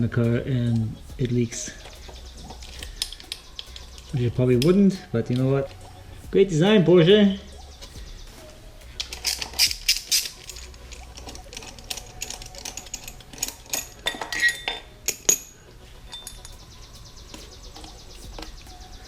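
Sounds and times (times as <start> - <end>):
metal tools clinking: 0.0 - 18.8.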